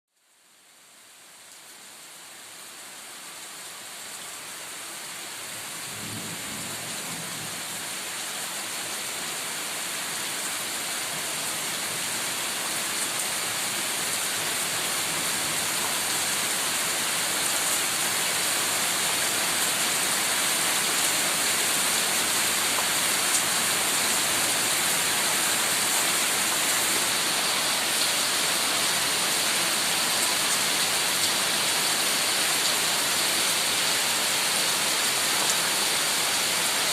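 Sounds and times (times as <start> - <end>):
heavy rain hissing: 4.6 - 36.9.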